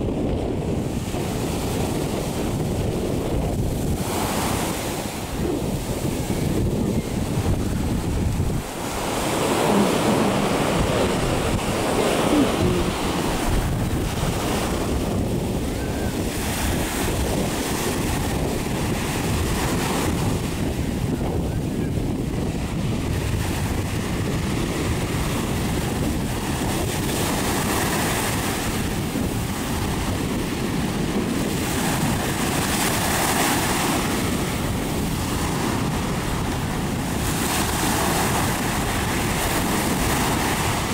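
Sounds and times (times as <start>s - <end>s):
small waves washing up shore: 0.0s - 40.9s
wind buffeting microphone: 0.0s - 40.9s.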